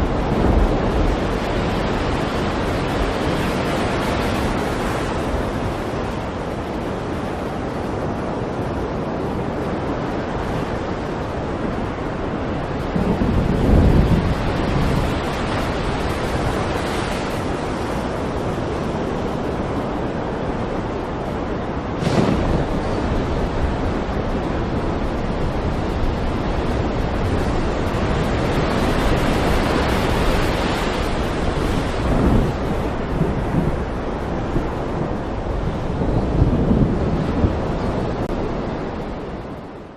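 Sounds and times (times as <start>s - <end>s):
waves rushing: 0.0s - 39.9s
wind: 0.0s - 39.9s.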